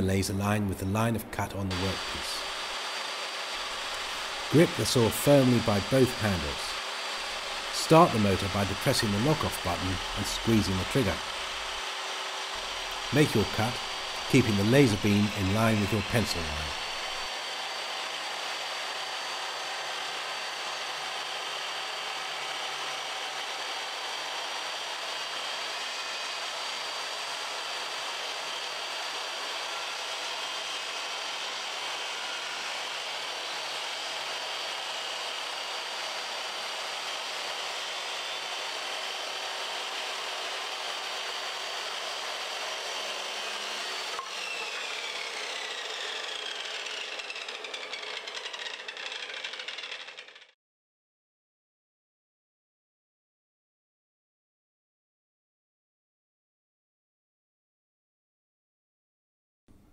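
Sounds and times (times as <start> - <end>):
circular saw cutting wood: 0.0 - 50.6.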